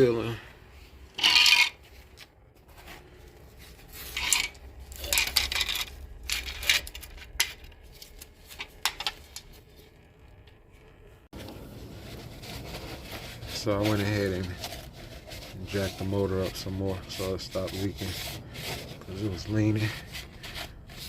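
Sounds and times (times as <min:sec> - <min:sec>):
rubbing and scraping: 0:00.0 - 0:21.0.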